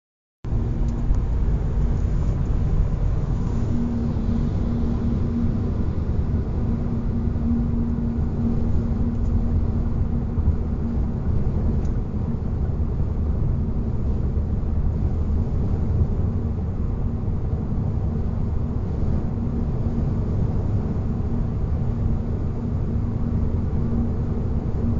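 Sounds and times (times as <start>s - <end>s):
road and tyre rumble: 0.4s - 24.9s
steady low-pitched hum: 0.4s - 24.9s.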